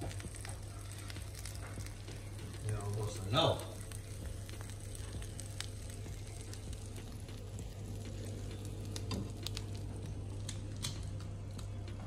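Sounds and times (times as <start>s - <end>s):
bread sizzling in a pan: 0.0s - 11.2s
crackles and pops: 0.0s - 12.0s
steady low hum: 0.0s - 12.0s.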